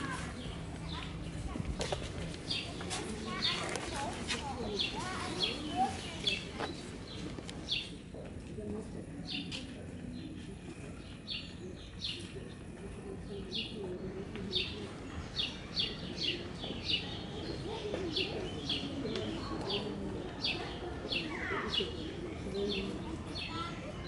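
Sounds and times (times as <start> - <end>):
songbird chirping: 0.0 - 24.0.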